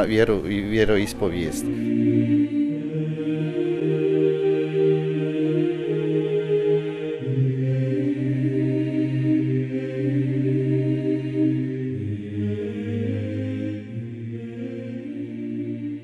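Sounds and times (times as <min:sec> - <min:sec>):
chant-like voices music: 0:00.0 - 0:16.0.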